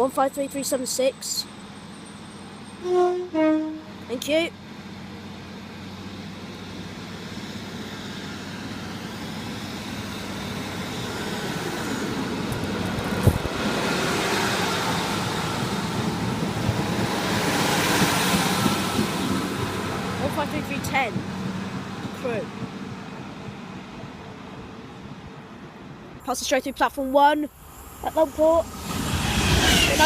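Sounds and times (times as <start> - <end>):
train rumble and rail noise: 0.0 - 30.0.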